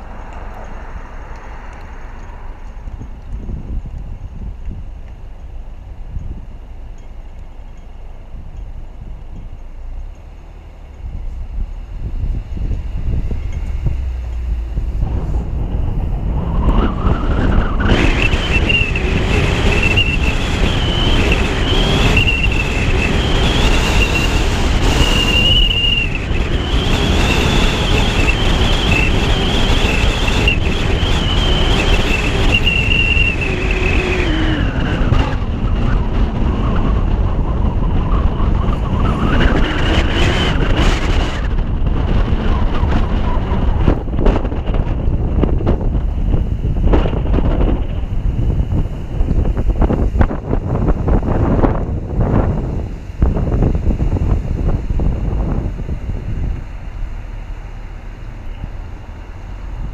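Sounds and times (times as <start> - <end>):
car road noise: 0.0 - 59.9
wind rushing over microphone: 0.0 - 59.9.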